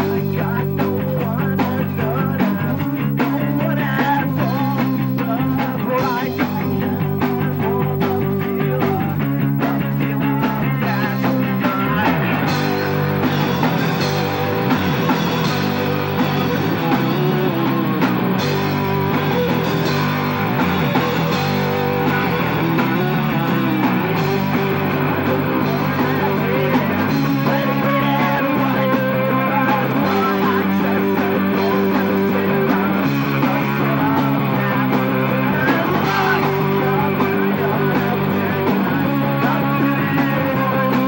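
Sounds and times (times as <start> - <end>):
live rock band playing: 0.0 - 41.0.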